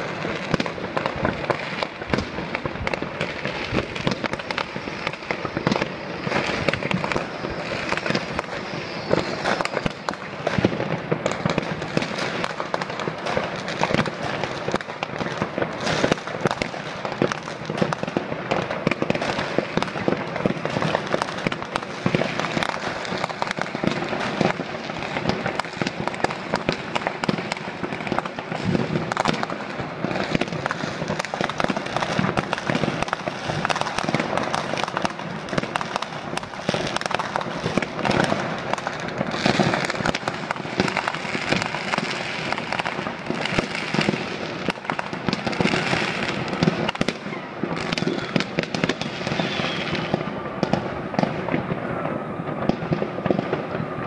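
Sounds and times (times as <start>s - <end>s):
distant fireworks bursts: 0.0s - 54.0s
firecrackers crackling: 0.0s - 54.0s.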